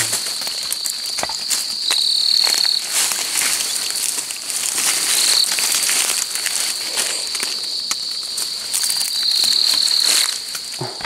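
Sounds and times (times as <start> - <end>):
insects trilling: 0.0 - 11.0
leaves and twigs crackling: 0.0 - 11.0
lower insect trill: 0.0 - 11.0.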